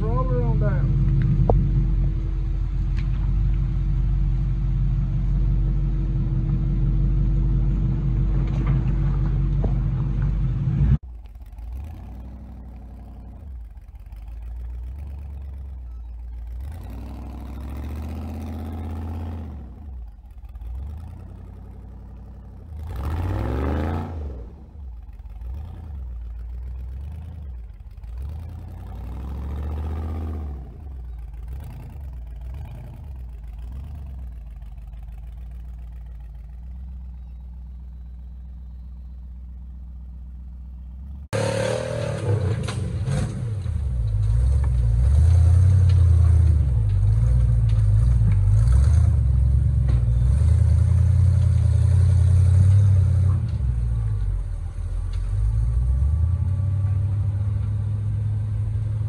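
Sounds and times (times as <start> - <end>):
buggy engine revving: 0.0 - 59.0
vehicle engine running loudly: 0.0 - 59.0.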